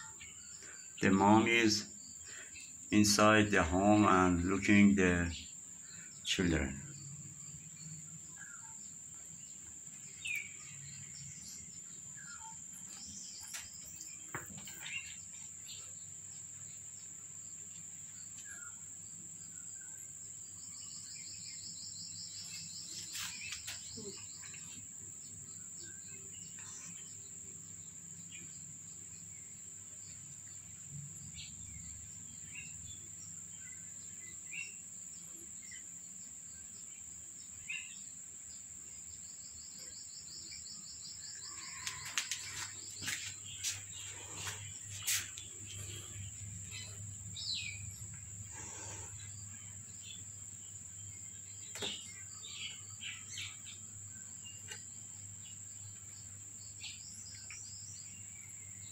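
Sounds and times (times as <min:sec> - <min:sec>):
insect drone: 0:00.0 - 0:58.9
pulsing insect trill: 0:00.0 - 0:58.9.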